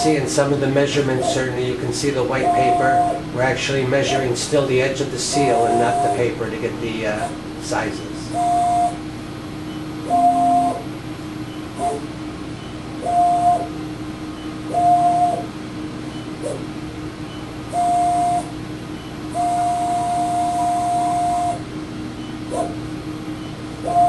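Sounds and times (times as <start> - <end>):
constant low hum: 0.0 - 24.0
motorized stage whining: 0.0 - 24.0.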